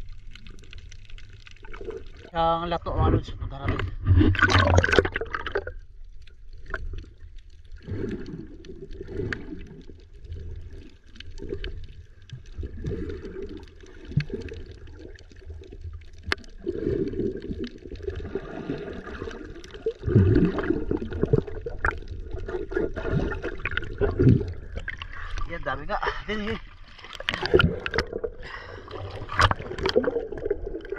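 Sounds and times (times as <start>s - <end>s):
muffled underwater sloshing: 0.0s - 30.9s
surge of water: 1.2s - 5.8s, 6.6s - 11.9s, 12.6s - 30.9s.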